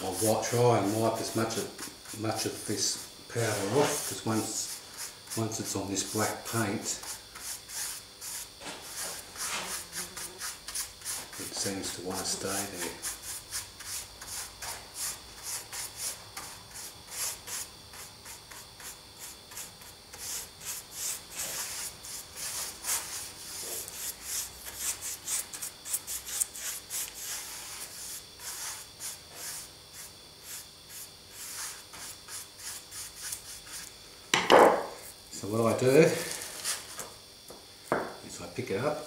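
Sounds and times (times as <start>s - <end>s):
paintbrush scrubbing strokes: 0.0s - 33.9s.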